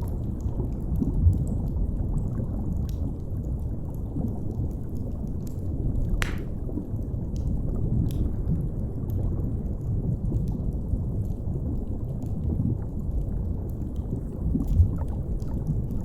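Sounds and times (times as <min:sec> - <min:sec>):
faint fire crackles: 0:00.0 - 0:16.0.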